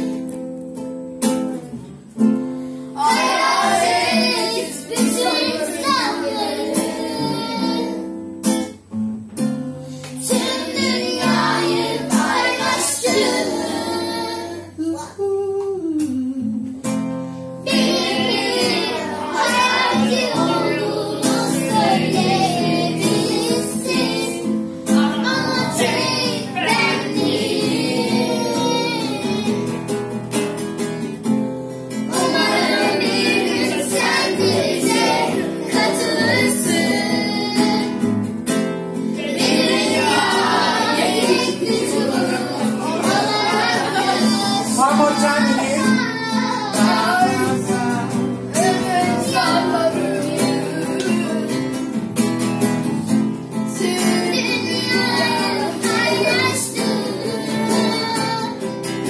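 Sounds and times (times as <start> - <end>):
strummed acoustic guitar: 0.0 - 59.0
children singing: 3.0 - 8.2, 10.2 - 15.1, 17.6 - 29.9, 31.9 - 38.2, 39.0 - 52.0, 53.0 - 59.0.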